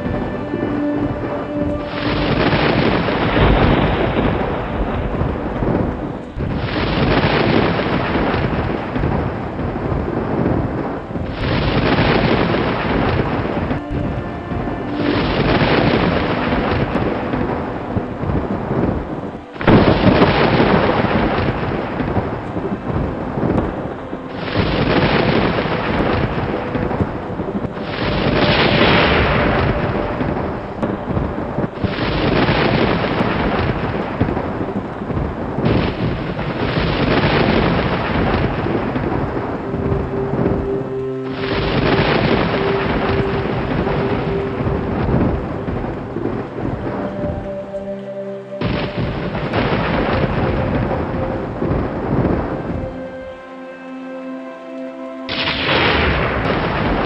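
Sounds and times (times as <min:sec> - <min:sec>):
heavy rain: 0:00.0 - 0:48.0, 0:48.6 - 0:52.9, 0:55.3 - 0:57.0.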